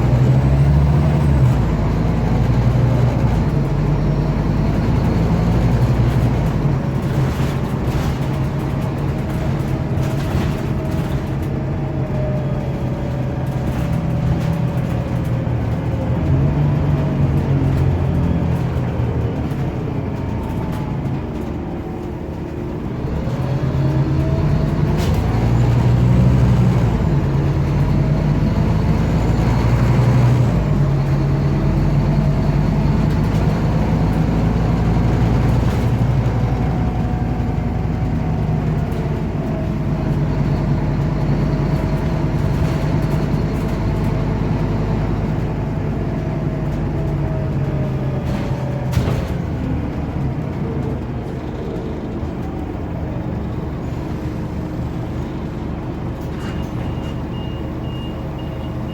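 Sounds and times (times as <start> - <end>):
bus engine droning: 0.0 - 58.9.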